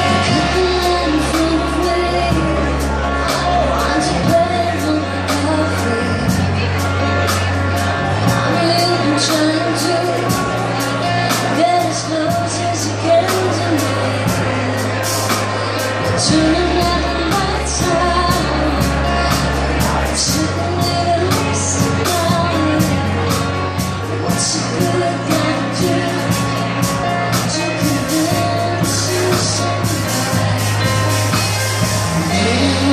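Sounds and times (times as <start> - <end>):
woman singing: 0.0 - 7.2, 8.2 - 14.8, 16.0 - 31.2, 32.2 - 32.9
drum kit with cymbals: 0.0 - 32.9
keyboard bass notes: 0.0 - 32.9.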